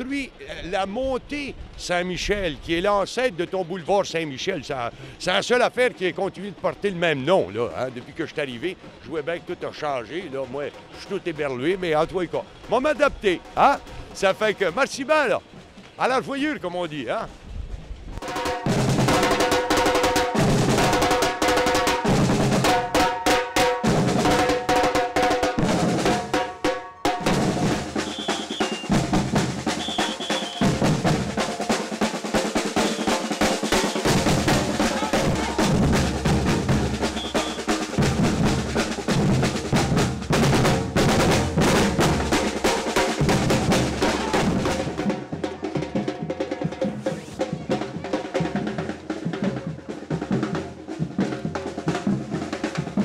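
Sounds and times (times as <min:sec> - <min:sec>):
drum band playing: 0:05.2 - 0:16.6, 0:18.2 - 0:53.0.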